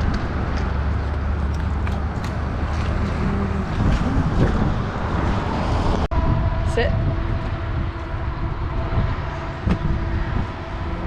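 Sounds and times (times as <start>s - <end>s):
truck road and engine rumble: 0.0s - 11.0s.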